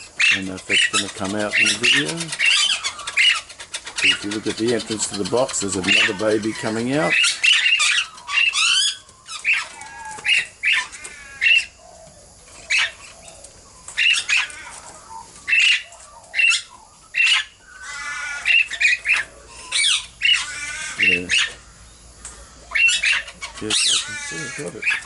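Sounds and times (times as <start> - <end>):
parrots squawking: 0.0 - 12.0, 12.6 - 25.0.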